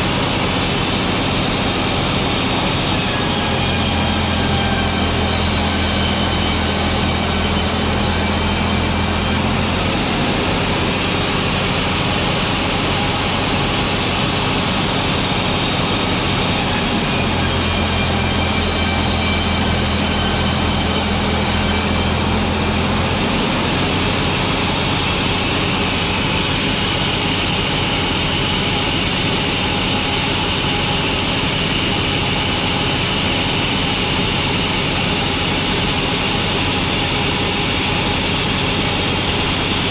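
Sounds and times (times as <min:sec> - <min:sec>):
deep motor hum: 0:00.0 - 0:39.9
sawmill machinery cutting boards: 0:00.0 - 0:39.9.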